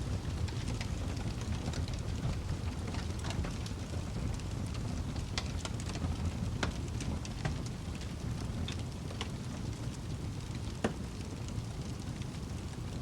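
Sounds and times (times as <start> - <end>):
fire flames rumbling and hissing: 0.0 - 13.0
logs crackling and popping: 0.0 - 13.0.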